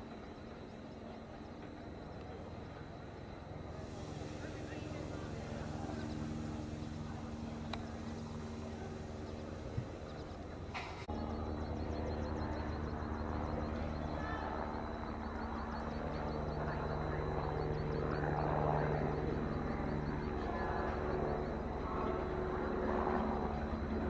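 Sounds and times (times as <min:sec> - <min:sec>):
engine drone with hum: 0:00.0 - 0:24.0.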